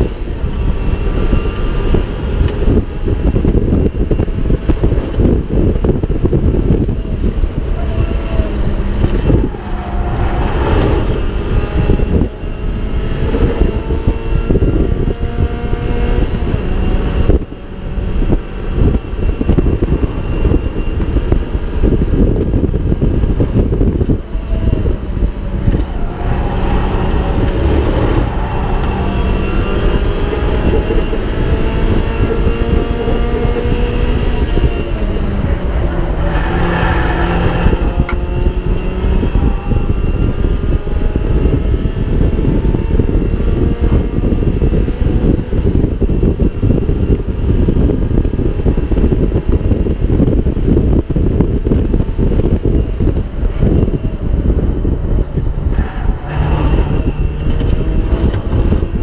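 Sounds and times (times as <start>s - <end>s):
race car engine revving: 0.0s - 59.0s
wind buffeting microphone: 0.0s - 59.0s.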